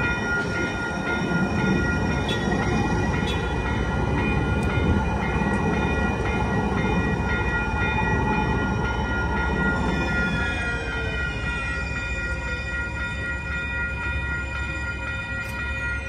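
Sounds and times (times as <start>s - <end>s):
light rail train rumbling past: 0.0s - 16.0s
railroad crossing bells ringing: 0.0s - 16.0s.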